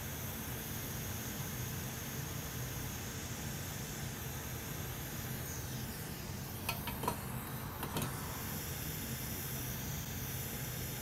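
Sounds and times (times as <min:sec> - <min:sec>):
hot air blower hissing: 0:00.0 - 0:11.0.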